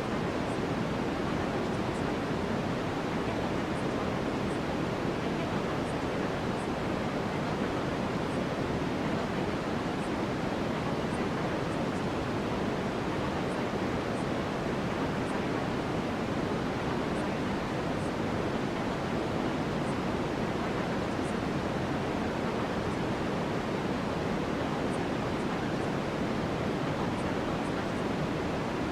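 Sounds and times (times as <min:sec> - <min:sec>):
white noise hiss: 0:00.0 - 0:28.9.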